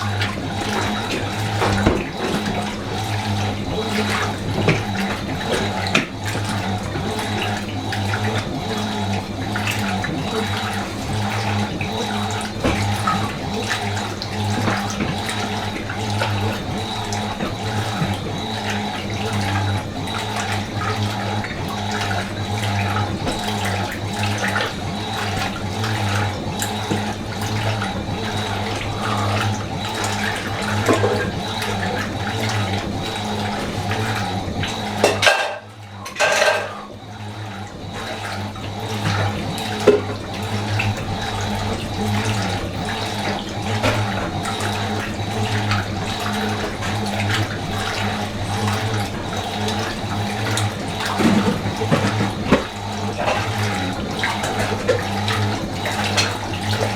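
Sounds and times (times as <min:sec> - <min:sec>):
washing machine running: 0:00.0 - 0:56.9.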